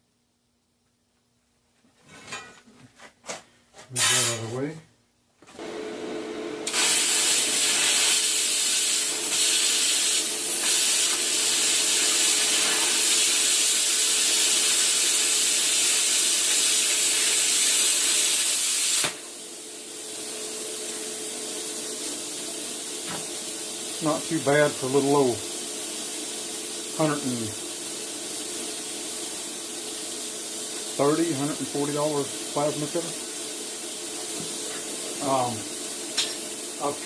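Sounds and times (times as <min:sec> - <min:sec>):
quieter hiss: 0:03.9 - 0:37.0
plasma cutter arc hissing: 0:04.0 - 0:04.4, 0:05.6 - 0:37.0.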